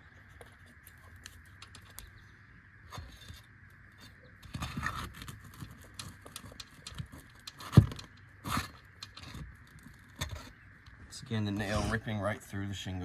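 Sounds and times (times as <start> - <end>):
pry bar clicking and scraping: 0.4 - 2.2, 2.9 - 12.1.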